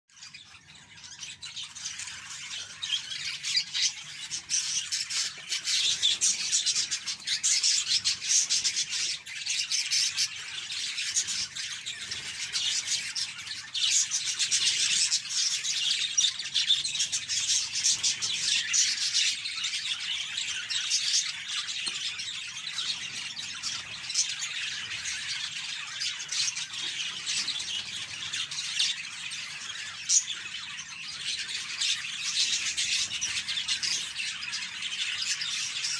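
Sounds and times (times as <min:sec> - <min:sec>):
budgerigars chattering: 0:00.2 - 0:35.9.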